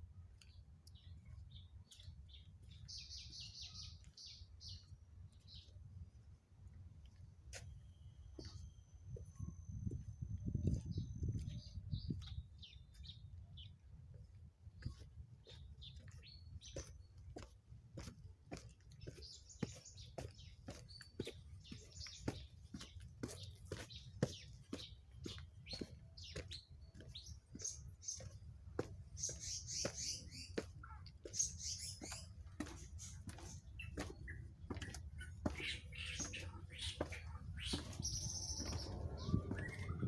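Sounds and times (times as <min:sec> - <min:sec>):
birds chirping: 0:00.3 - 0:05.8, 0:06.6 - 0:40.0.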